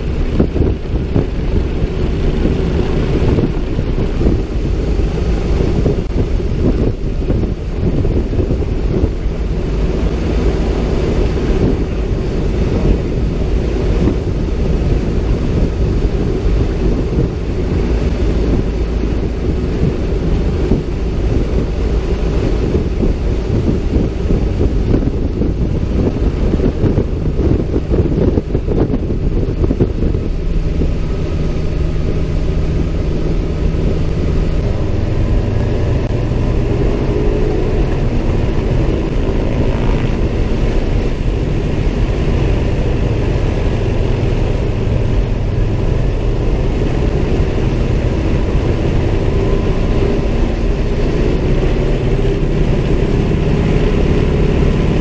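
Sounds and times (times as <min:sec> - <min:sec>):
propeller aircraft engine rumbling: 0:00.0 - 0:55.0
wind buffeting microphone: 0:00.0 - 0:55.0.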